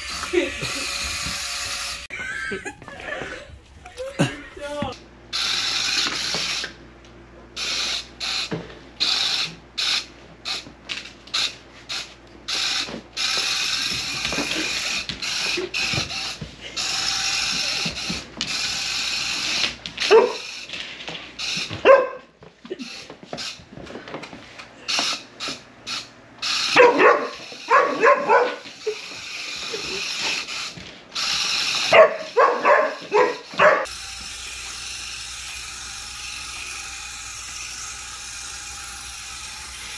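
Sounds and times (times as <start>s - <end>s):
toy motor whirring: 0.0s - 2.2s, 4.6s - 6.8s, 7.6s - 22.0s, 22.7s - 23.6s, 24.8s - 39.9s.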